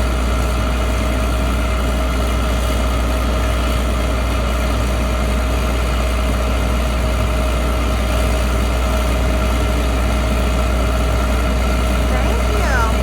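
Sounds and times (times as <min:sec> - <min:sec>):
constant engine whine: 0:00.0 - 0:13.0
diesel engine humming: 0:00.0 - 0:13.0.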